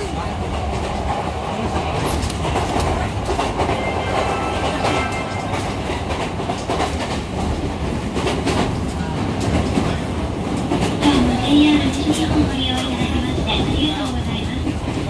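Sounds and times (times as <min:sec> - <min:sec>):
train rumble from inside: 0:00.0 - 0:15.0.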